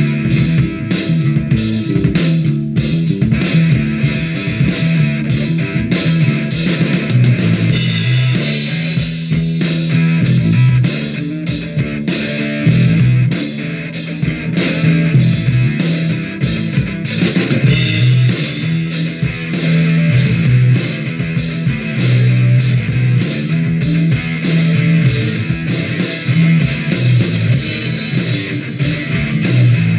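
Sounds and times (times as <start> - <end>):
rock music with drums: 0.0 - 29.9.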